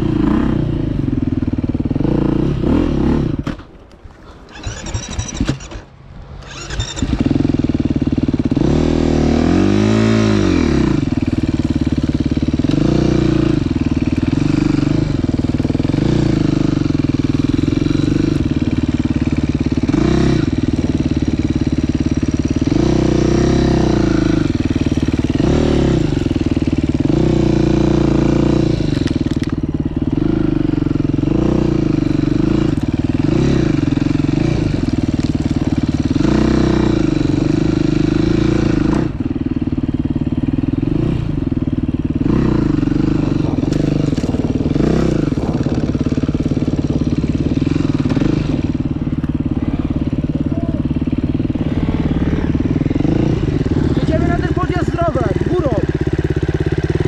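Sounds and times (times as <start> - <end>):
dirt bike engine revving: 0.0 - 3.6, 4.2 - 57.0.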